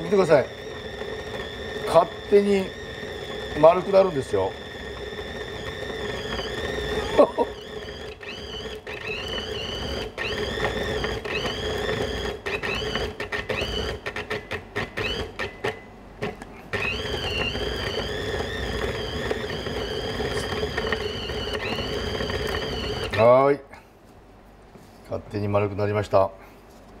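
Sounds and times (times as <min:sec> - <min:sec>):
food processor motor whining: 0:00.0 - 0:23.4.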